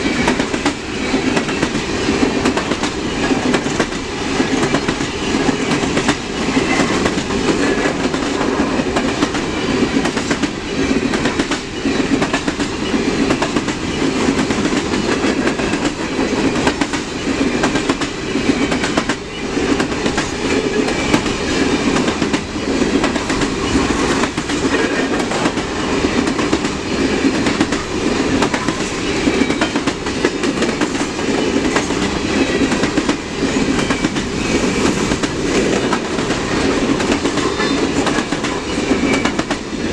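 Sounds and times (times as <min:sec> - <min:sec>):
freight train cars rumbling past: 0:00.0 - 0:39.9
wheels clicking over rail joints: 0:00.0 - 0:39.9.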